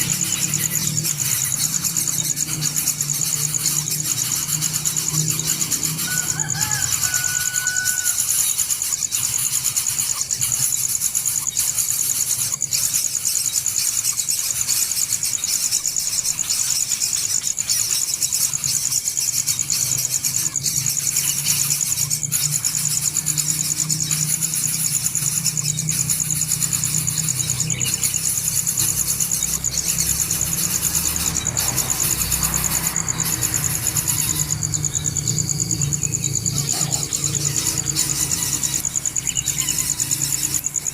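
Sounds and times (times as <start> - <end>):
insects buzzing chorus: 0.0 - 40.9.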